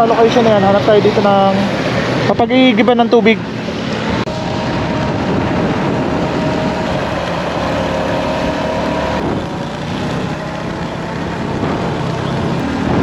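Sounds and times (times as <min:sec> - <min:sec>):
motorcycle engine running: 0:00.0 - 0:13.0
road noise: 0:00.0 - 0:13.0
wind noise: 0:00.0 - 0:13.0.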